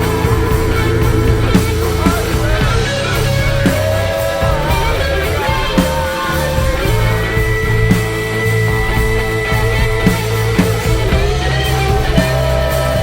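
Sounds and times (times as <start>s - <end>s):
drum hits: 0.0s - 13.0s
rock band playing: 0.0s - 13.0s.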